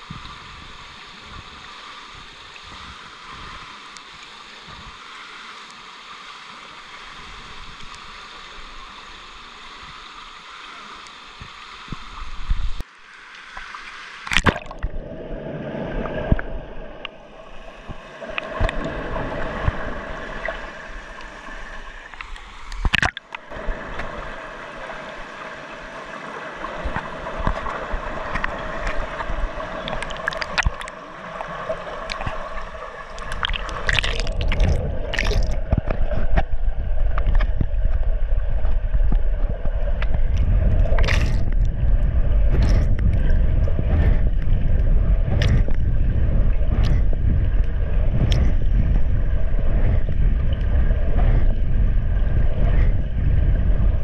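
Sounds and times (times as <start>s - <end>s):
muffled underwater hiss: 0.0s - 54.0s
water sloshing and churning: 0.0s - 54.0s.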